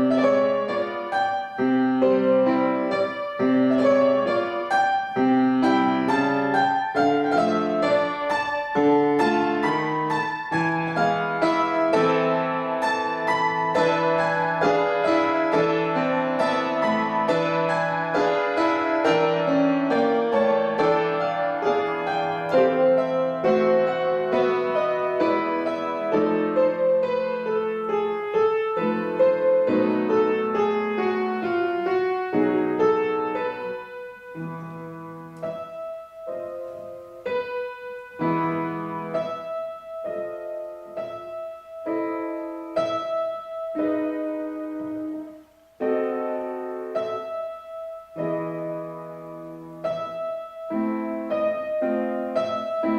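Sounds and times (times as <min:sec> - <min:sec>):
solo piano classical piece: 0:00.0 - 0:52.9.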